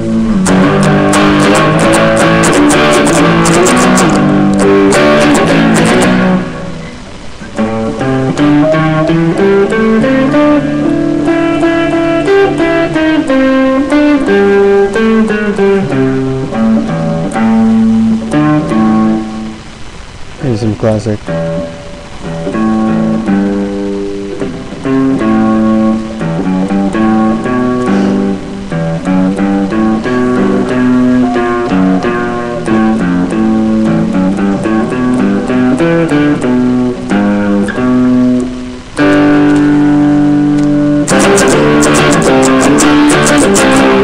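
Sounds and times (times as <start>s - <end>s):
electric guitar: 0.0s - 44.0s.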